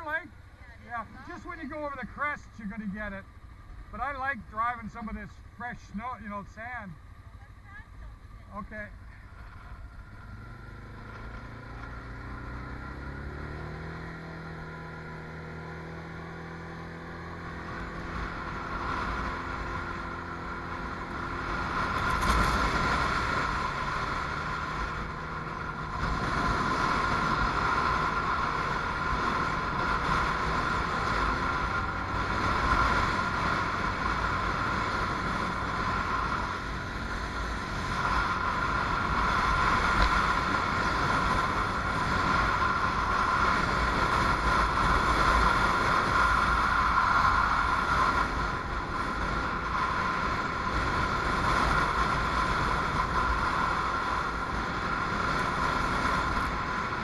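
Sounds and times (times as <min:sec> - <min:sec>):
atv engine pulling away: 0:09.0 - 0:57.0.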